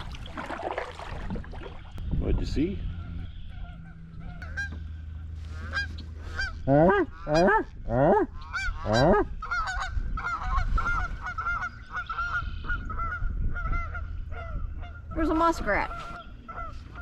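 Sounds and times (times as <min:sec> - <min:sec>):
geese honking: 0:02.7 - 0:17.0.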